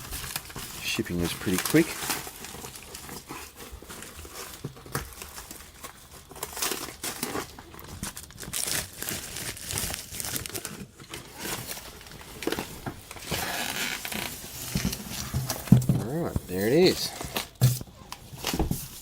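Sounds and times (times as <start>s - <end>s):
packaging crinkling and tearing: 0.0s - 19.0s.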